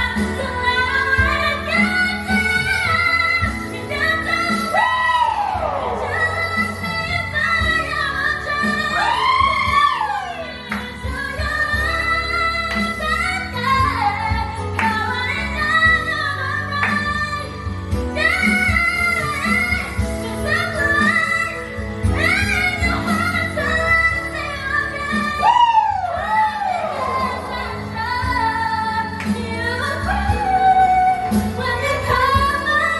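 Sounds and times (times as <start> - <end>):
woman singing: 0.0 - 32.9.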